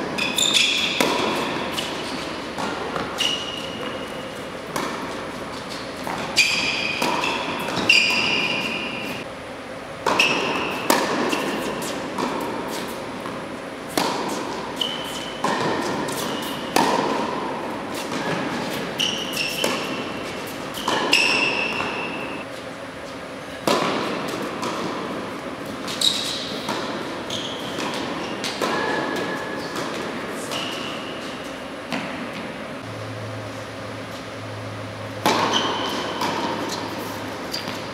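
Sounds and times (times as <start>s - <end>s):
tennis ball bouncing on court: 0.0s - 9.2s, 10.0s - 22.4s, 23.6s - 32.9s, 35.1s - 37.9s
tennis ball hit by racquet: 0.0s - 9.2s, 10.0s - 22.4s, 23.6s - 32.5s, 35.2s - 37.9s
shoes squeaking on court: 0.0s - 9.3s, 10.1s - 32.9s, 35.1s - 37.9s.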